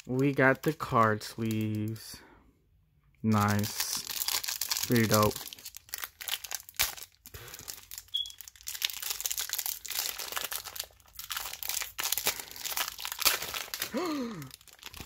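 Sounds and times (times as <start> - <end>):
plastic wrapping crinkling: 0.0 - 2.0, 3.3 - 15.0.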